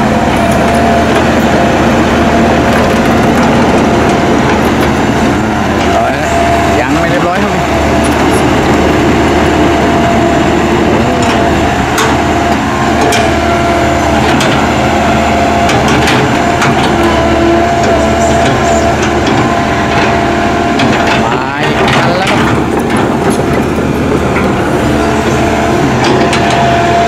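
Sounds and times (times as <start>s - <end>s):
excavator diesel engine under load: 0.0s - 27.0s.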